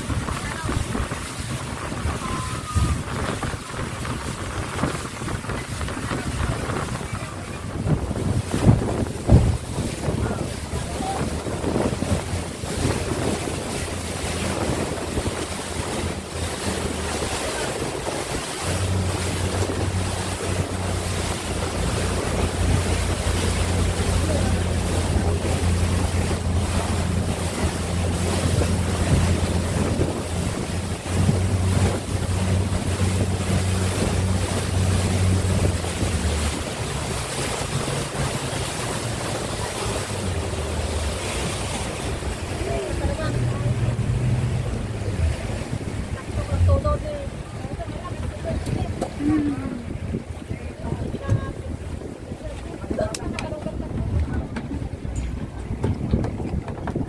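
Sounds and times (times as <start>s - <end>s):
speedboat engine droning: 0.0s - 57.0s
water rushing against hull: 0.0s - 57.0s
wind buffeting microphone: 0.0s - 57.0s.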